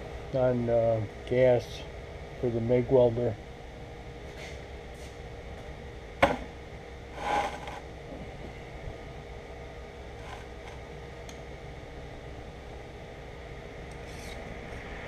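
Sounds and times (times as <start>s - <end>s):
workshop mechanical hum: 0.0s - 15.0s.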